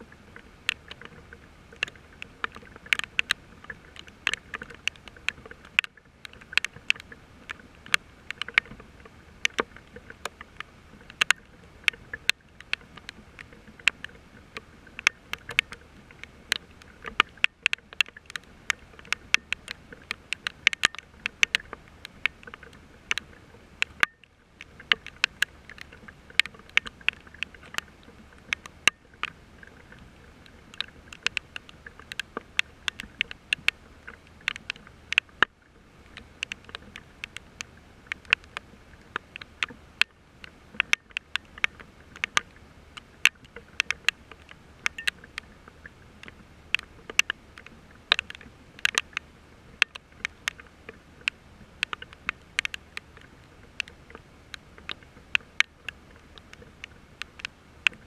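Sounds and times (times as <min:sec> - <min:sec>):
faint steady rain hiss: 0:00.0 - 0:58.0
raindrops ticking nearby: 0:00.0 - 0:58.0.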